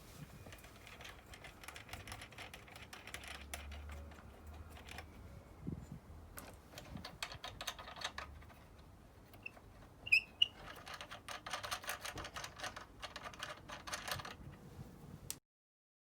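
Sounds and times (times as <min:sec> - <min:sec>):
rapid light clicking and rattling: 0:00.4 - 0:05.2, 0:06.4 - 0:14.6.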